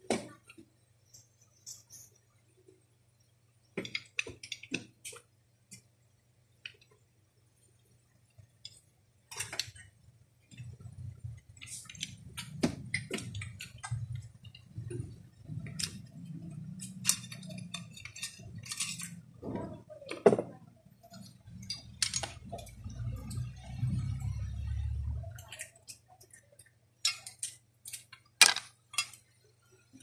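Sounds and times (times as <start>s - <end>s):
metallic clicks of small parts: 0.0s - 2.4s, 3.6s - 7.0s, 7.7s - 20.4s, 21.0s - 30.0s.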